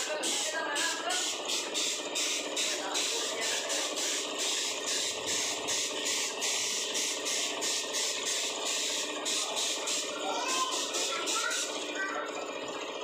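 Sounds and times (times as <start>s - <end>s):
paint spray gun hissing: 0.2s - 11.8s.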